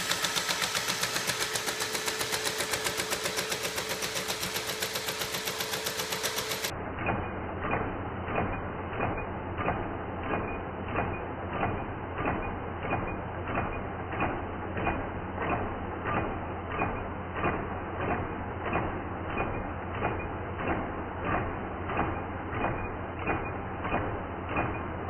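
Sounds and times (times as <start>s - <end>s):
model engine hum and rattle: 0.0s - 25.0s
sharp mechanical clack: 0.0s - 25.0s.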